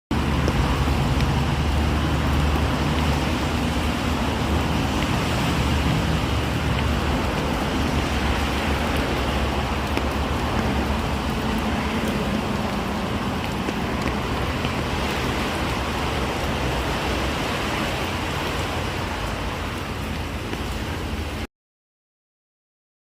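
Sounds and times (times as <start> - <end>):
steady rain falling: 0.1 - 21.5.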